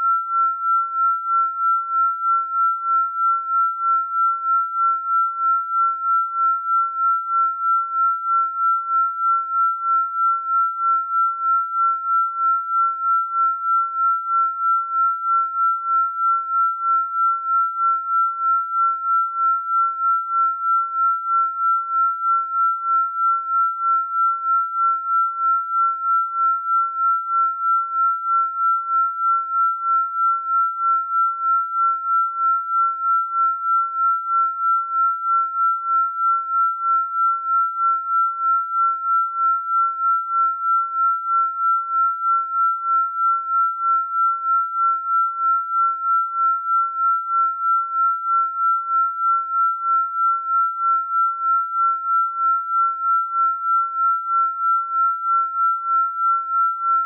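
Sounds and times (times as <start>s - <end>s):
pulsing sine tone: 0.0s - 57.0s.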